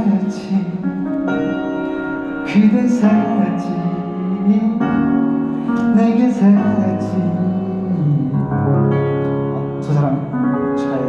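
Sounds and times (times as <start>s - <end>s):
person singing slow song: 0.0s - 11.0s
piano chords: 0.0s - 11.0s.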